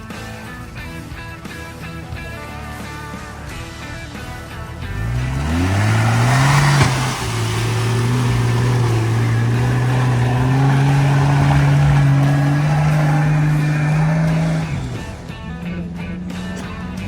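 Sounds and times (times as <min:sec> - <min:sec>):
off-road engine revving: 0:00.0 - 0:17.0.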